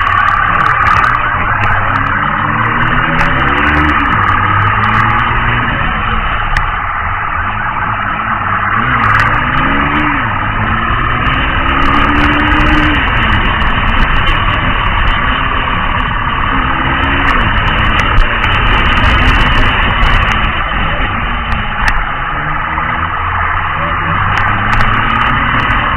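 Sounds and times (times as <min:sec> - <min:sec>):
road noise: 0:00.0 - 0:25.9
vehicle engine revving: 0:00.0 - 0:25.9.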